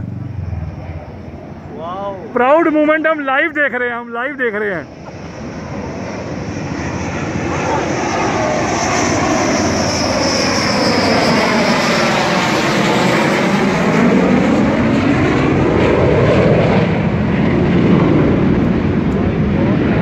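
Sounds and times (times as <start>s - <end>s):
fighter jet passing overhead: 0.0s - 20.0s.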